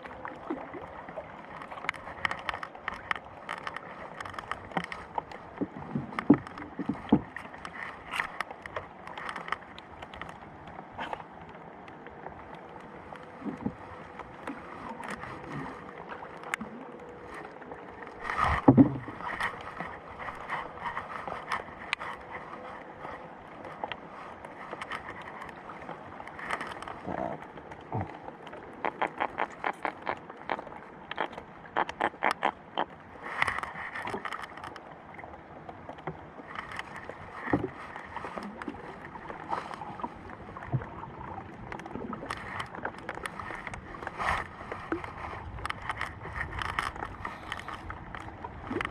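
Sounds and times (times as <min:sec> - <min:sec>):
knocks and handling in boat: 0:00.0 - 0:48.9.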